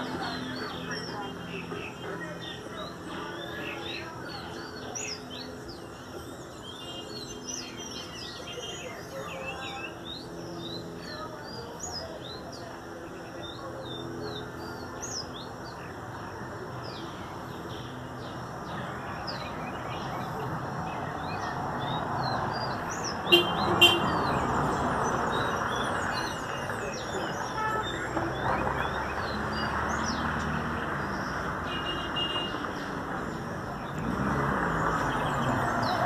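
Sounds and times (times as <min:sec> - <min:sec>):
songbird chirping: 0:00.0 - 0:36.0
steady background noise: 0:00.0 - 0:36.0.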